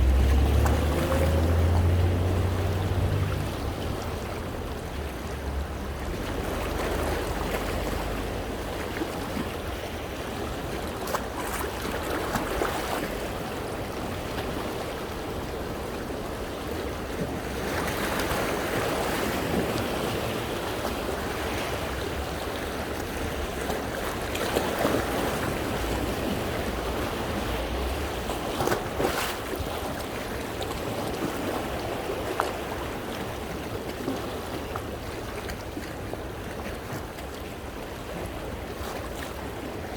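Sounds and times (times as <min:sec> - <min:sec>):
sea waves washing against rocks: 0:00.0 - 0:39.9.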